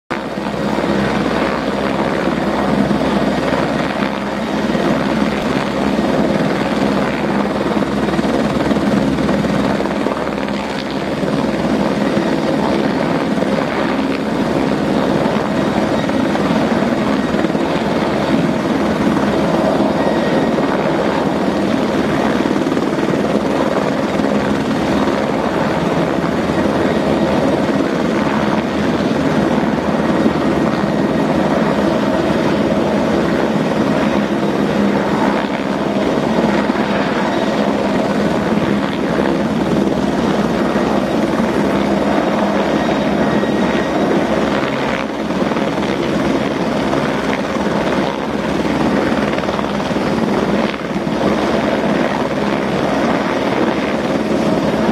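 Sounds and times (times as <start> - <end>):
helicopter engines and rotor: 0.1 - 54.9.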